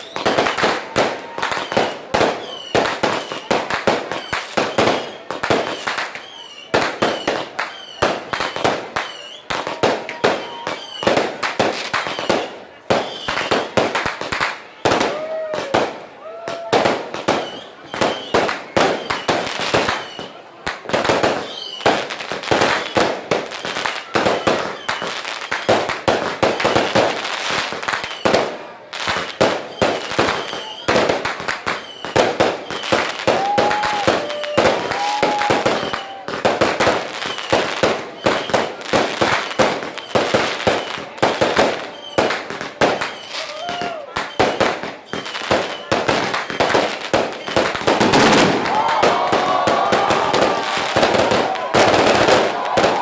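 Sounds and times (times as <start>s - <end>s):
fireworks bangs and crackling: 0.0s - 53.0s
onlookers' voices: 0.0s - 53.0s.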